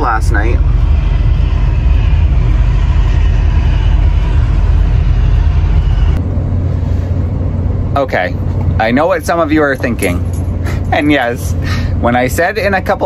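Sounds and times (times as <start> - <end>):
engine low rumble: 0.0 - 13.0
low hum: 0.0 - 13.0.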